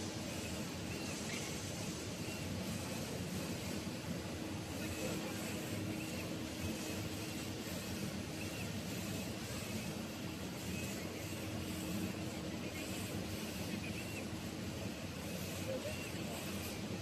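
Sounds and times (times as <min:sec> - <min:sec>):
machine hum and air noise: 0:00.0 - 0:17.0.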